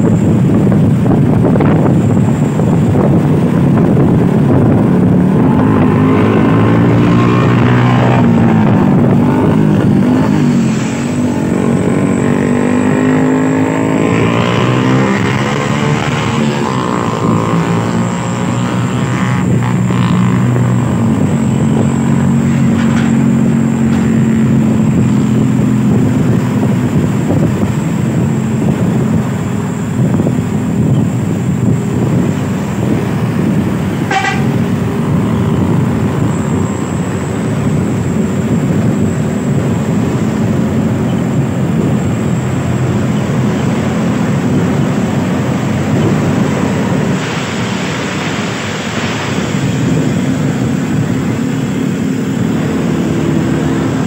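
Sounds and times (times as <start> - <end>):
coach engine drone and road noise: 0.0 - 54.0.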